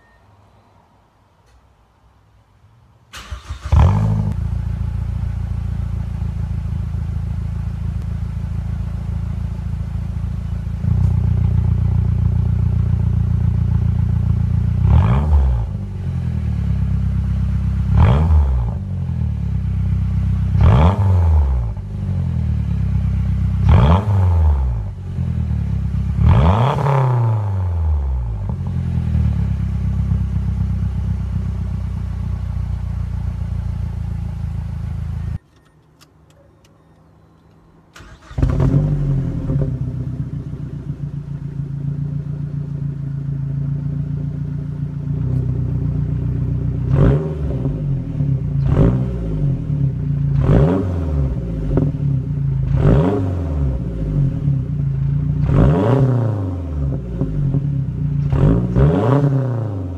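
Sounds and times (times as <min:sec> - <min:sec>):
car engine idling and revving: 0:03.2 - 0:35.6, 0:36.3 - 0:59.9.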